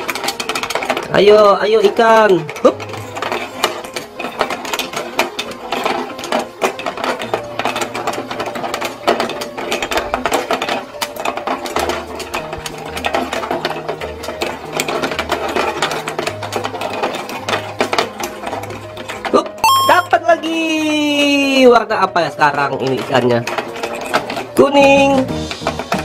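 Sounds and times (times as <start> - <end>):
toy plastic gears clicking: 0.0 - 26.0.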